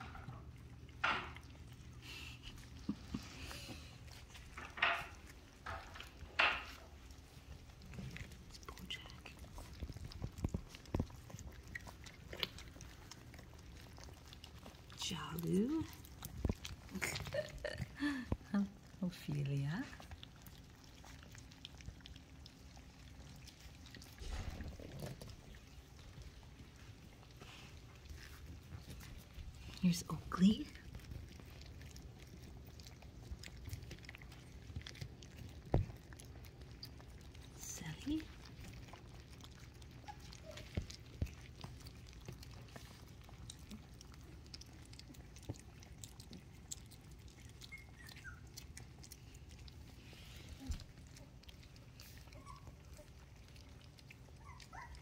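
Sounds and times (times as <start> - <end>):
puppies lapping and chewing: 0.0 - 55.0.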